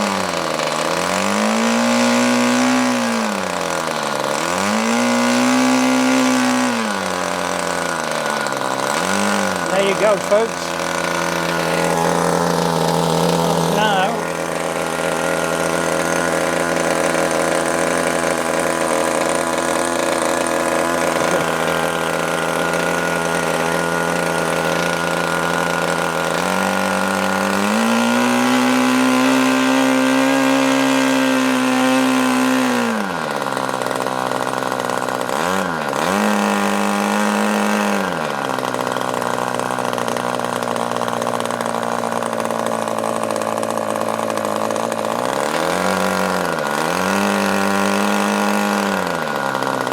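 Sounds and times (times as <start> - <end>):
model engine running: 0.0 - 49.9.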